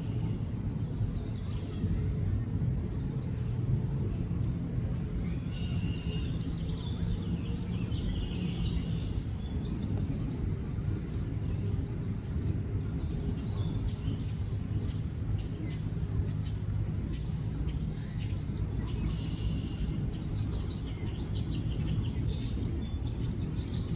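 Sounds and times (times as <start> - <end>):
songbirds chirping: 0.0 - 23.9
steady low rumble: 0.0 - 23.9.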